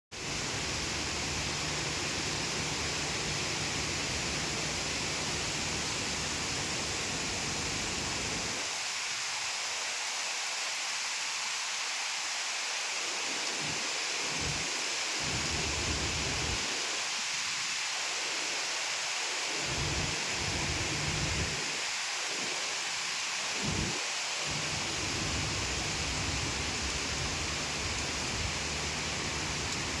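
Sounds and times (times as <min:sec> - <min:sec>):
rain falling: 0:00.2 - 0:30.0.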